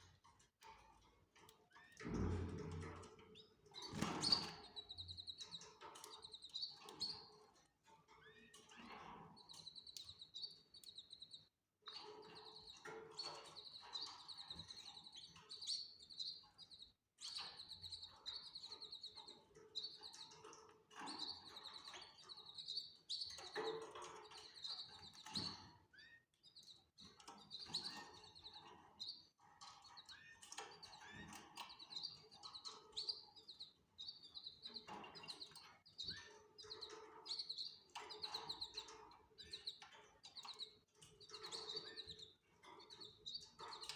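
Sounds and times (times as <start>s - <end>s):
canaries chirping and twittering: 0.0s - 43.9s.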